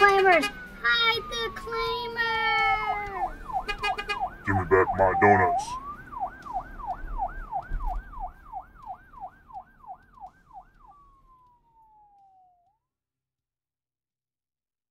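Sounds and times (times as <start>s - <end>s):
electronic siren yelp: 0.0s - 12.8s.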